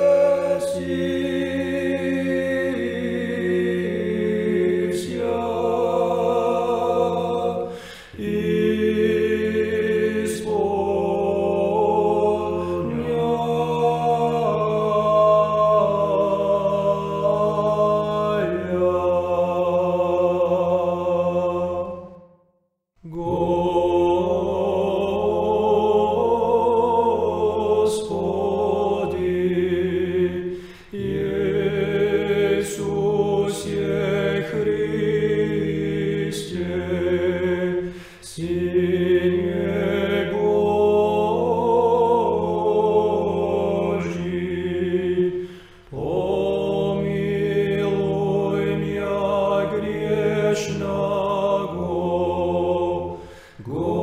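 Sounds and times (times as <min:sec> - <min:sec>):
choir chanting a hymn: 0:00.0 - 0:22.4, 0:23.0 - 0:54.0.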